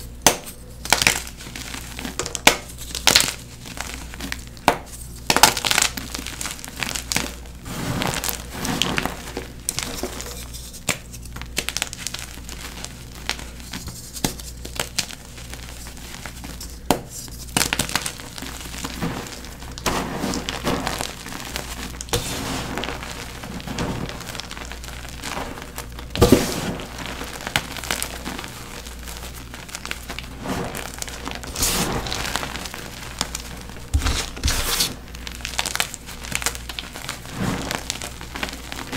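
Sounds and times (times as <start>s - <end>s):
chalk blocks crumbling and crunching: 0.2s - 38.9s.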